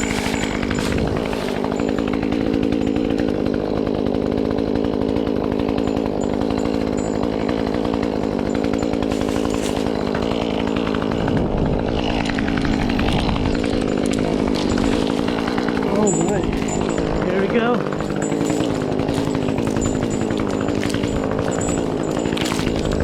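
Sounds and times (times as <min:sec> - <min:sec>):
chainsaw engine running: 0:00.0 - 0:23.0.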